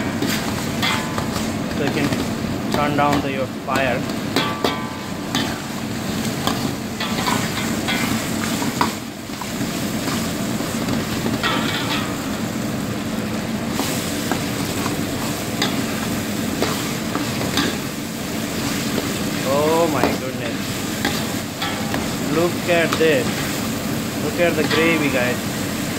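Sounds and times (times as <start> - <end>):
food sizzling in a wok: 0.0 - 25.9.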